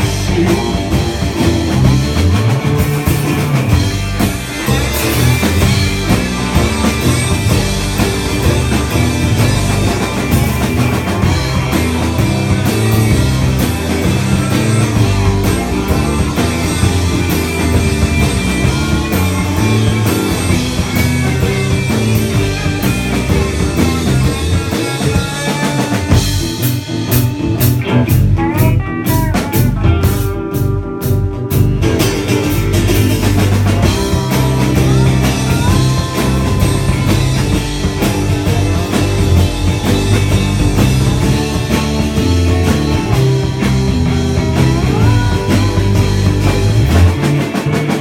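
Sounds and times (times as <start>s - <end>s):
country rock band playing: 0.0s - 48.0s.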